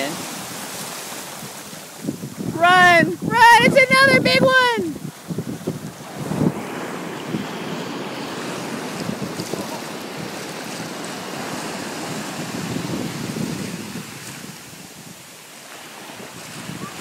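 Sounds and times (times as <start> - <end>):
ocean surf breaking: 0.0 - 17.0
whitewater rushing up shallows: 0.0 - 17.0
wind on microphone: 0.0 - 17.0.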